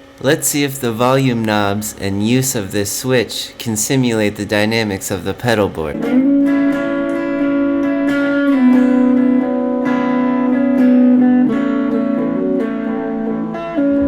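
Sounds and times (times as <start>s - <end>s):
electric guitar sustained notes: 0.0s - 14.0s.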